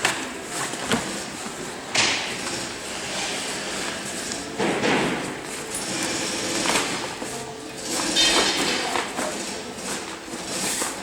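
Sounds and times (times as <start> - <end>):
fabric rustling and scraping: 0.0 - 11.0.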